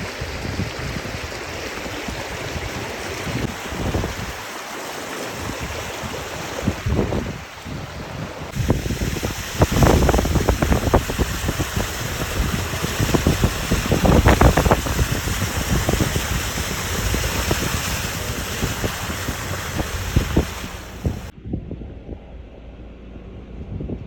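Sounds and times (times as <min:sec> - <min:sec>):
wind buffeting microphone: 0:00.0 - 0:04.5, 0:05.3 - 0:22.4.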